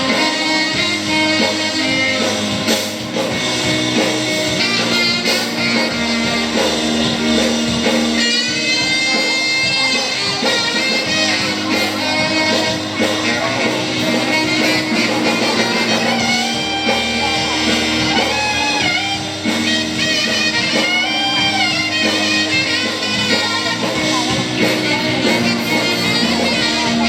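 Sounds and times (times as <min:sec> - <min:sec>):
electric guitars: 0:00.0 - 0:27.0.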